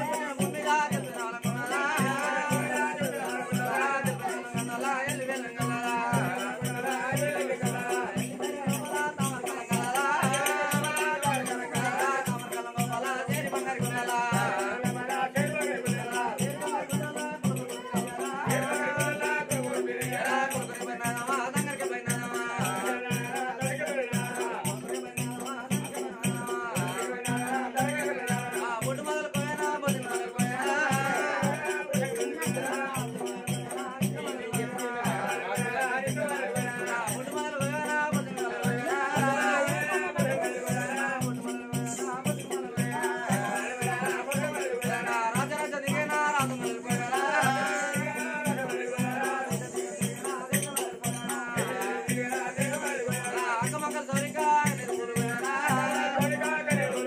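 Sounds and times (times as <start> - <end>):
fast jingling rhythm: 0.0 - 57.0
person singing a devotional melody: 0.0 - 57.0.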